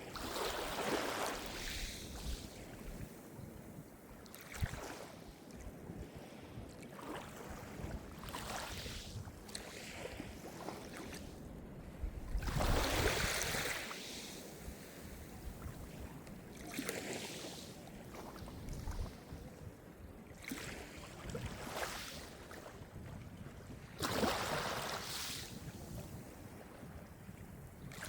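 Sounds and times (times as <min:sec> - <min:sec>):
small waves breaking on shore: 0:00.0 - 0:28.0.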